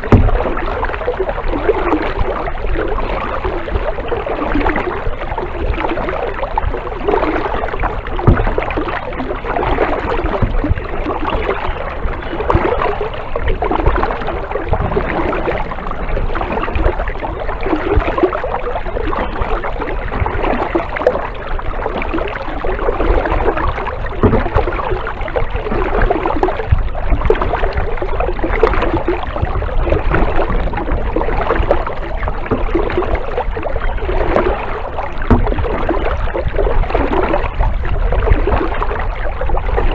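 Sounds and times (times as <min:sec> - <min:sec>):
paddle splashing in water: 0:00.0 - 0:39.9
steady low rumble: 0:06.5 - 0:39.6.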